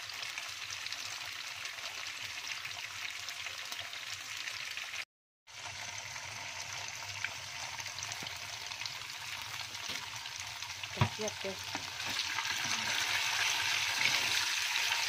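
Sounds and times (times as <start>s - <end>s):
tofu frying in hot oil: 0.0s - 15.0s.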